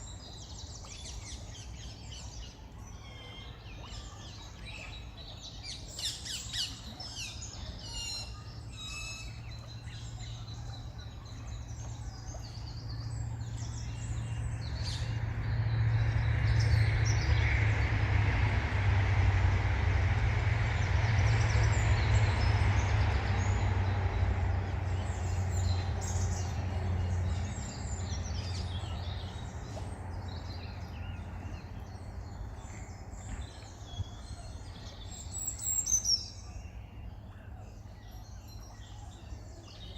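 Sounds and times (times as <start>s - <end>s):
low rumbling noise: 0.0s - 39.9s.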